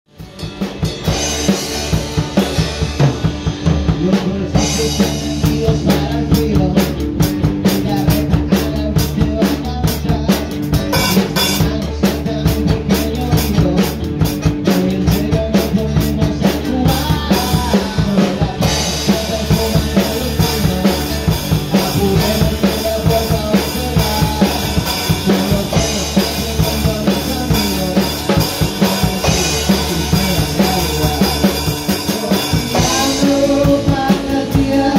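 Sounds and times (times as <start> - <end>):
drum kit and cymbals: 0.1 - 34.9
guitars and bass: 0.1 - 34.9
person singing: 3.6 - 34.9.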